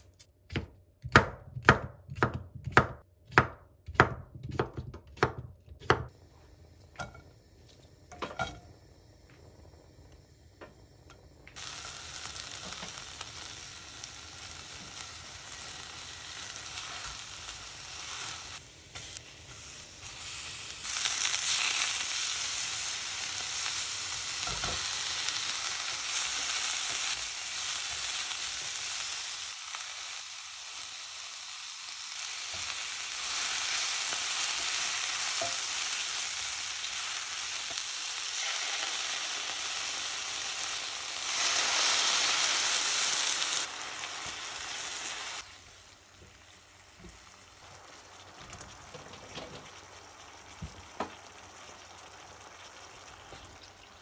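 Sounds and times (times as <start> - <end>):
food sizzling in frying pan: 6.1 - 54.0
water hissing in hot pan: 6.2 - 54.0.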